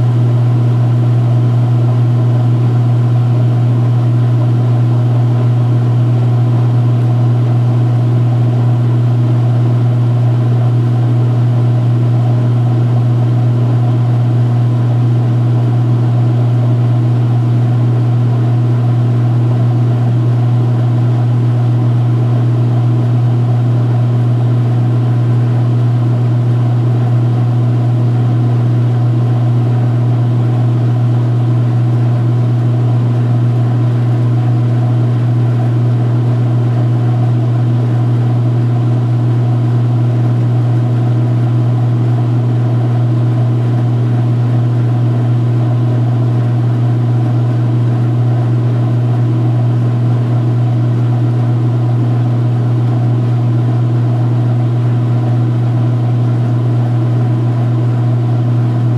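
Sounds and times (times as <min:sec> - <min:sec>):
washing machine spinning: 0:00.0 - 0:58.9.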